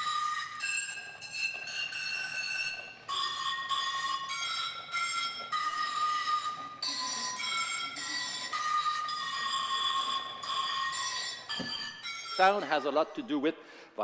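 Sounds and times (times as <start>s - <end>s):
struck bowls ringing melody: 0.0s - 13.3s.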